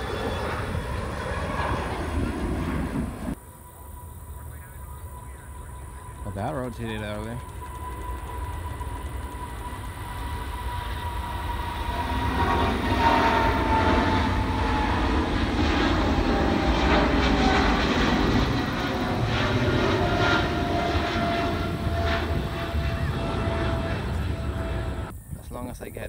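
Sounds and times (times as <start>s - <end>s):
jet airliner taking off: 0.0s - 26.0s.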